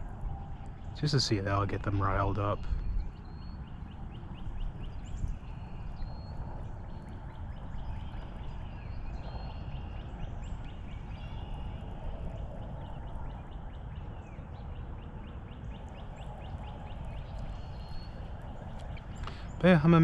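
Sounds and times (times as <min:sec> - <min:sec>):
birds chirping: 0:00.0 - 0:20.0
wind-like noise with low rumble: 0:00.0 - 0:20.0.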